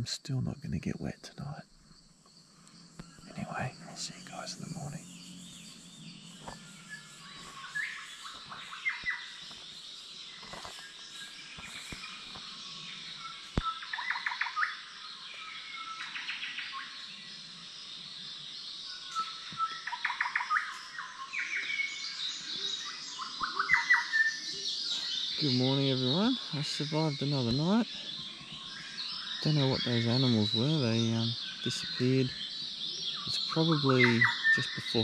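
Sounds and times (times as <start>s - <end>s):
birds calling and singing: 0.0s - 35.0s
rapid bird trills: 1.4s - 35.0s.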